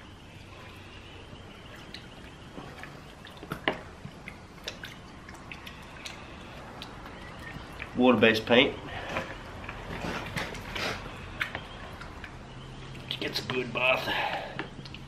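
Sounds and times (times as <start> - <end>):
water splashing in plastic bucket: 1.6 - 15.0.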